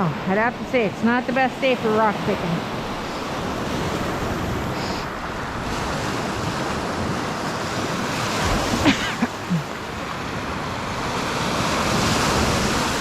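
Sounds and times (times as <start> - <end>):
waves washing on beach: 0.0 - 13.0.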